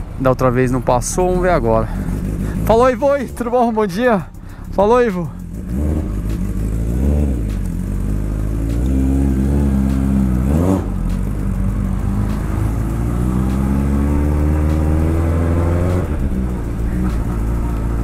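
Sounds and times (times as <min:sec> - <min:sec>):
motorcycle engine accelerating: 0:01.4 - 0:18.0.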